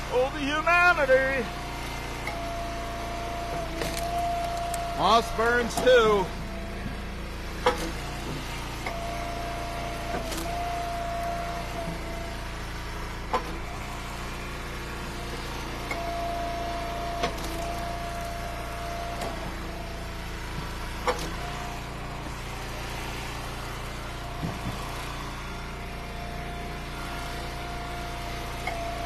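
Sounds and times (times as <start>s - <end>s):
hydraulic whine: 0.0s - 29.0s
wood splitter engine running: 0.0s - 29.0s.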